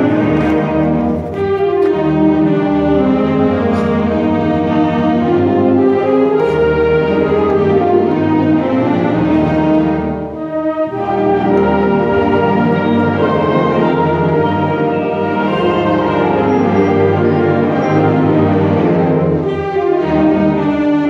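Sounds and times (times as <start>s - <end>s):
concert band playing: 0.0s - 21.0s.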